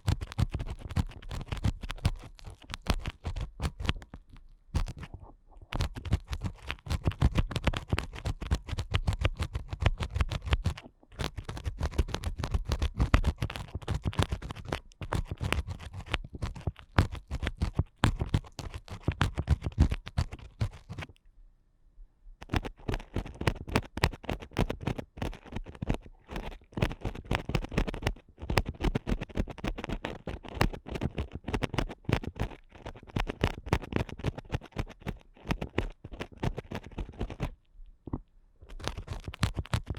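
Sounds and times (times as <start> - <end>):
ear picks scratching microphone: 0.0 - 21.2, 22.4 - 39.9.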